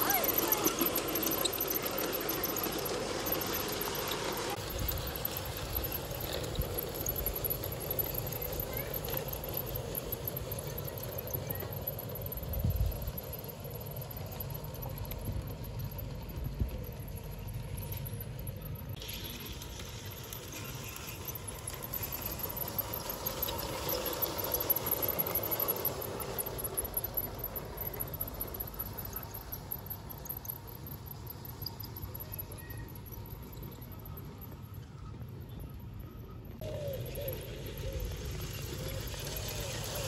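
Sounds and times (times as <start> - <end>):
model trains running on track: 0.0 - 40.0.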